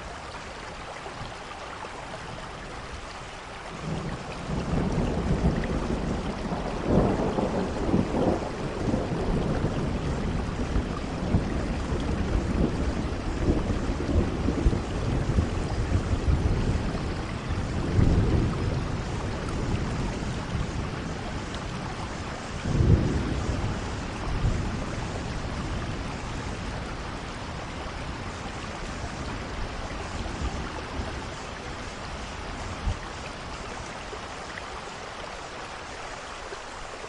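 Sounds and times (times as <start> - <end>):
rainfall: 0.0 - 37.0
rolling thunder: 3.8 - 33.6.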